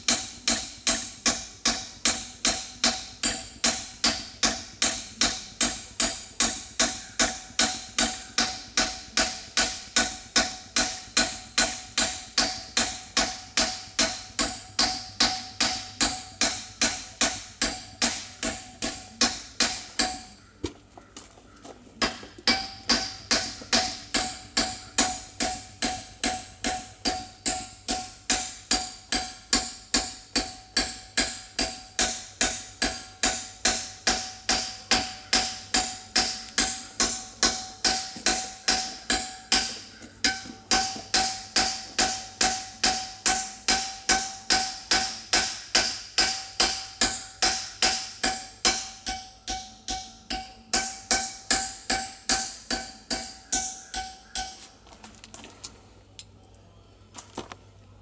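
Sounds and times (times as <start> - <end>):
hammer striking steel plate: 0.0 - 20.4, 22.0 - 54.8.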